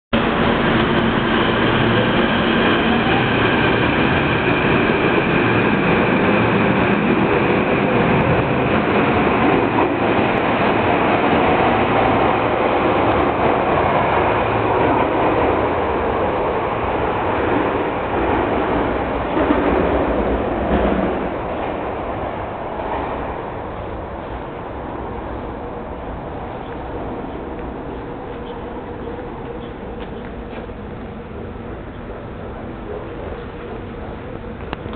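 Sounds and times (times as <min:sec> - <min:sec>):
subway train motors and wheels: 0:00.2 - 0:34.9.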